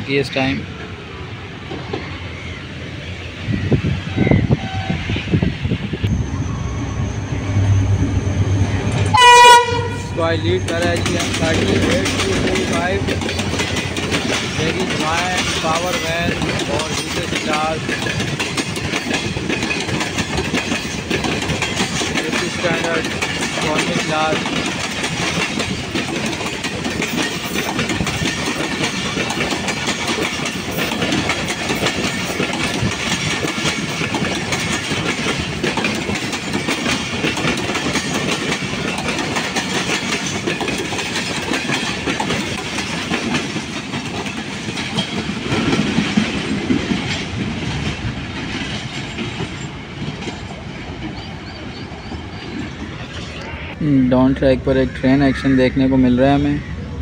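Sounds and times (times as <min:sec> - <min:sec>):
train wheels on rails: 0:00.0 - 0:53.8.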